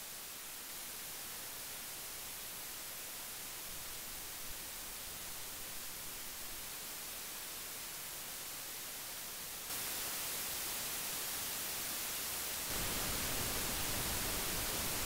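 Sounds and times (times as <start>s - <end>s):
steady preamp hiss: 0.0s - 15.0s.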